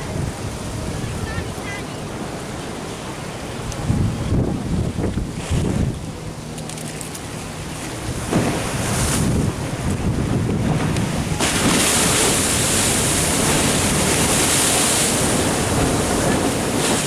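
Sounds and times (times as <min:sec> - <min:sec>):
ocean surf washing in: 0:00.0 - 0:06.6, 0:07.2 - 0:17.0
wind buffeting the microphone: 0:00.0 - 0:06.6, 0:07.4 - 0:17.0.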